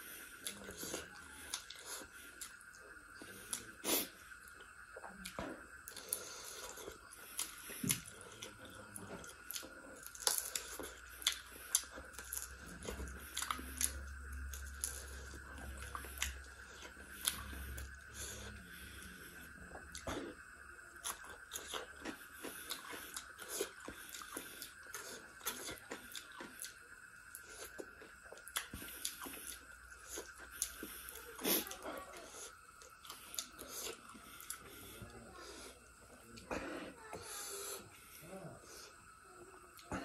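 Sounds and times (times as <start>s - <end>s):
close chewing with crunches: 0.2s - 38.2s.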